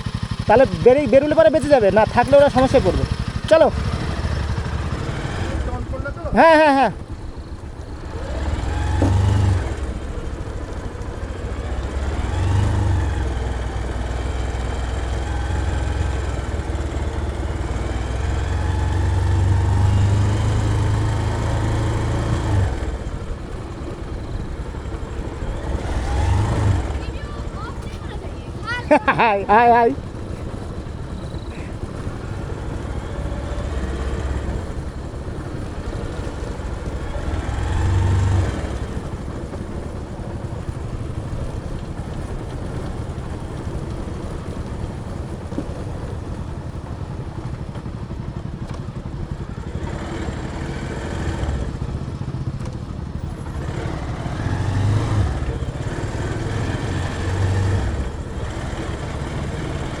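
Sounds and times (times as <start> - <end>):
motorcycle engine droning: 0.0 - 60.0
road noise: 0.0 - 60.0.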